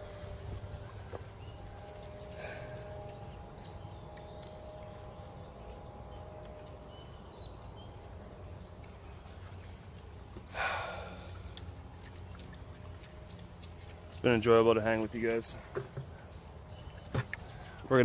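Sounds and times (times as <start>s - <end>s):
pigs feeding: 0.0s - 18.0s
steady outdoor rumble: 0.0s - 18.0s.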